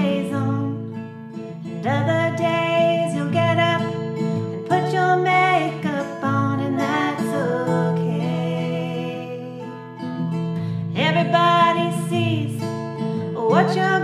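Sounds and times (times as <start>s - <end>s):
acoustic guitar plucked and strummed: 0.0s - 14.0s
woman singing: 0.0s - 14.0s.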